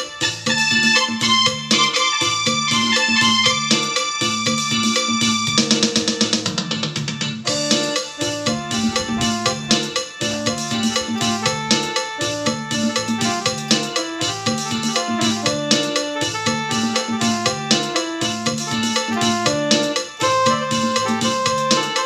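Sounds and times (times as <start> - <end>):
keyboard melody and bass: 0.0 - 5.8, 6.5 - 22.0
drums keeping steady beat: 0.0 - 22.0.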